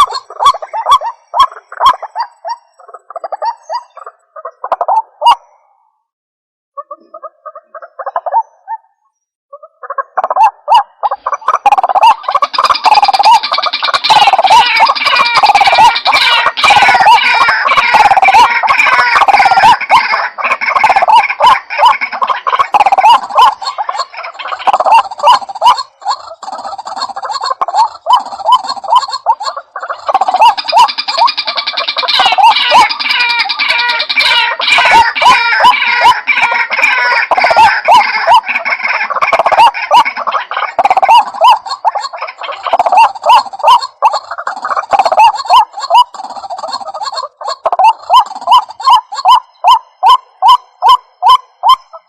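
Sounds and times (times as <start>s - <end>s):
waterhen calling: 0.0s - 5.8s, 6.8s - 8.8s, 9.6s - 52.0s.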